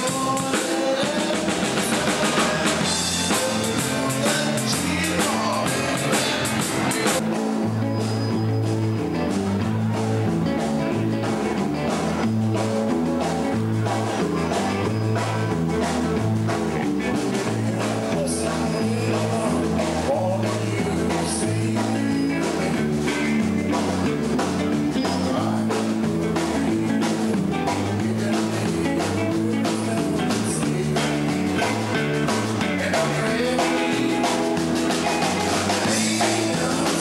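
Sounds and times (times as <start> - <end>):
drum beat: 0.0 - 7.5, 9.7 - 37.0
bass line: 0.0 - 37.0
electric guitars: 0.0 - 37.0.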